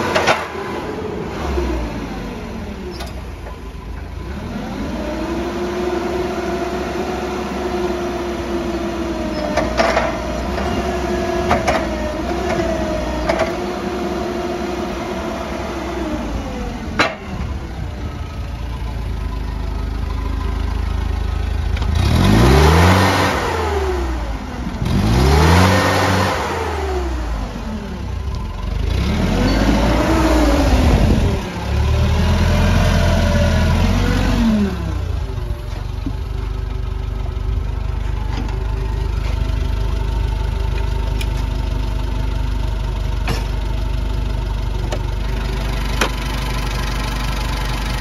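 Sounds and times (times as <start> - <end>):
forklift engine revving: 0.0 - 48.0
forklift engine running: 0.0 - 48.0.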